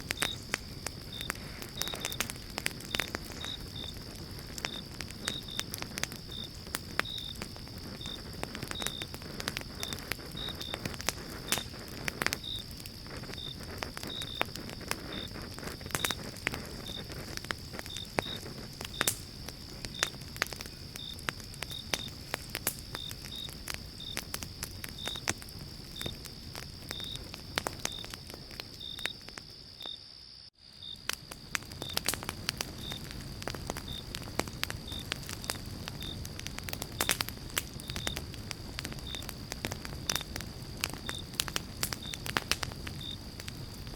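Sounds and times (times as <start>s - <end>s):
campfire crackling and popping: 0.0s - 30.0s, 30.6s - 43.9s
hiss of flames: 0.0s - 43.9s.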